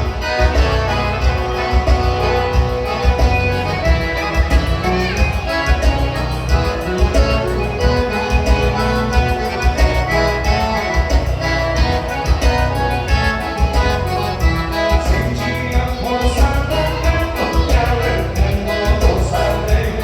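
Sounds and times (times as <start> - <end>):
dance music: 0.0 - 20.0.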